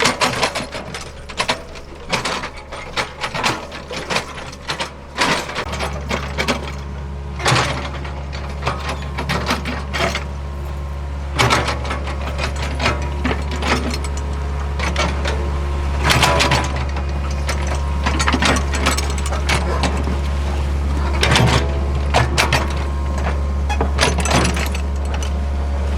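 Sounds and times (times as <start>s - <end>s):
metallic clanks and rattles: 0.0s - 25.7s
excavator diesel engine running: 0.0s - 25.9s.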